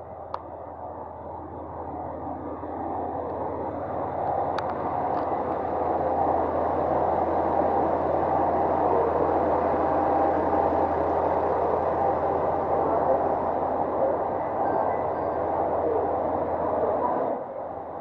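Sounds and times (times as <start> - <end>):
diesel train engine humming: 0.0 - 18.0.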